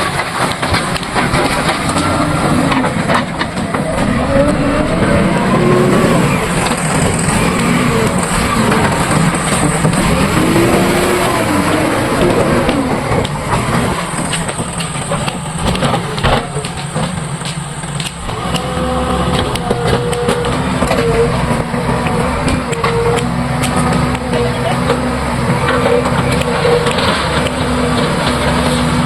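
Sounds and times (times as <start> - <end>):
diesel engine revving: 0.0 - 29.0
knocks and clatter: 0.0 - 29.0.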